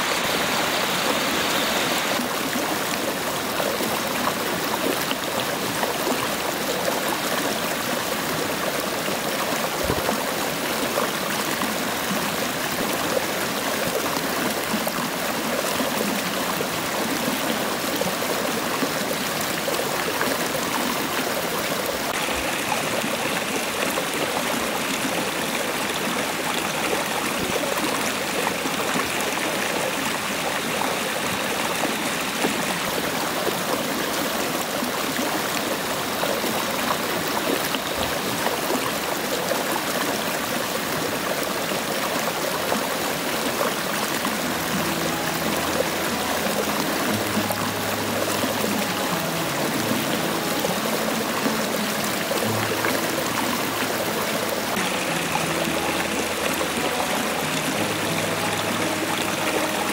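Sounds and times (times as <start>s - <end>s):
river and waterfall rushing: 0.0s - 59.9s.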